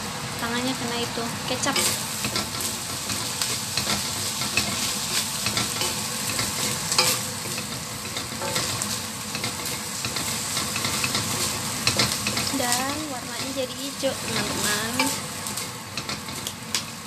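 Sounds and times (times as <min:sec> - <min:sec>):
rice sizzling in wok: 0:00.0 - 0:17.0
wooden spatula scraping wok: 0:01.6 - 0:17.0.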